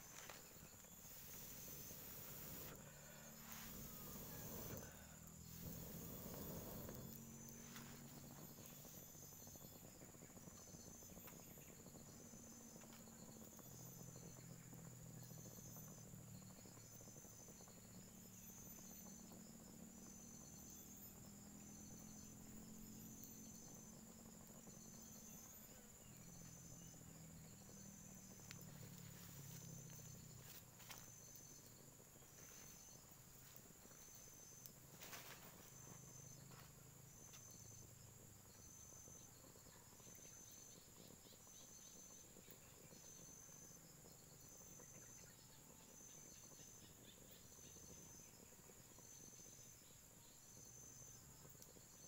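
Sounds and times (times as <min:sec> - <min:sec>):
insect chirps: 0:00.0 - 0:52.0.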